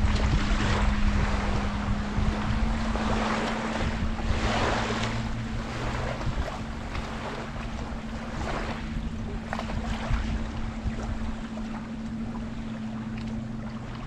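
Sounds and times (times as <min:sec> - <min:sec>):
low motor hum: 0:00.0 - 0:14.0
lower tone: 0:00.0 - 0:14.0
river water lapping: 0:00.0 - 0:14.0
wind buffeting microphone: 0:00.0 - 0:14.0.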